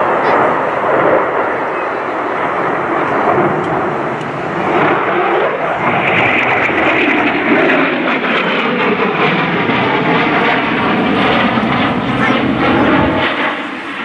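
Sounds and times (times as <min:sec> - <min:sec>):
jet fighter engines roaring: 0:00.0 - 0:14.0.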